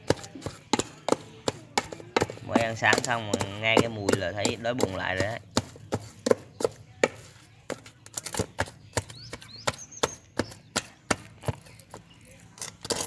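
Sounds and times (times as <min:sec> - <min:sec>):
wooden pestle knocking in metal pot: 0:00.0 - 0:12.0.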